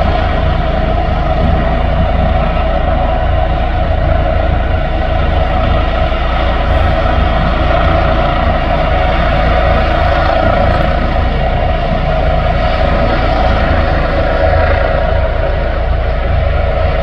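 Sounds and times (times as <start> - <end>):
helicopter whine and rumble: 0.0 - 17.0.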